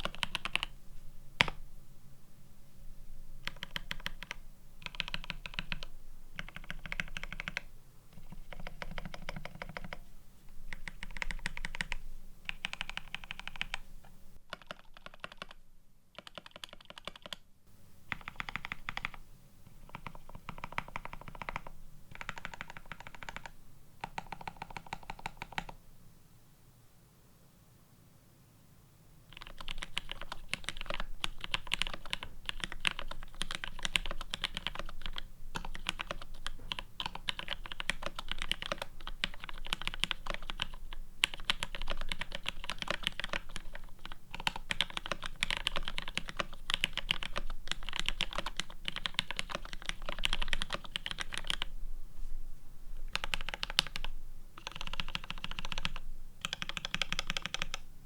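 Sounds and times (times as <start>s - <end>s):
fast typing on mechanical keyboard: 0.0s - 0.7s, 3.4s - 10.0s, 10.7s - 13.8s, 14.5s - 15.6s, 16.2s - 17.4s, 18.1s - 19.2s, 19.8s - 25.8s, 29.3s - 51.7s, 53.1s - 57.8s.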